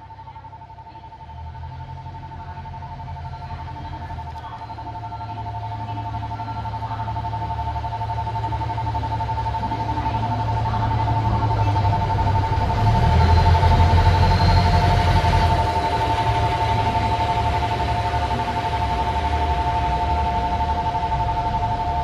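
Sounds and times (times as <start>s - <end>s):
diesel railcar engines rumbling: 0.0s - 22.0s
two-note electronic tone: 3.8s - 22.0s.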